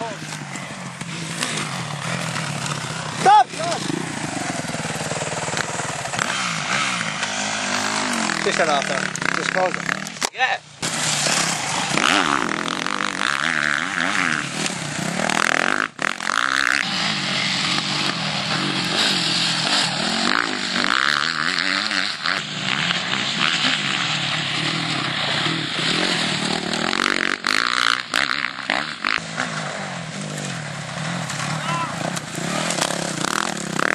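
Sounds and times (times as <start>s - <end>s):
motocross bike engines revving: 0.0s - 33.9s.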